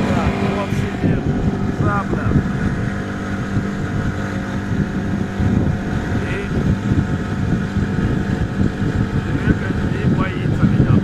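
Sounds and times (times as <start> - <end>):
motorboat engine droning: 0.0 - 11.0
water rushing: 0.0 - 11.0.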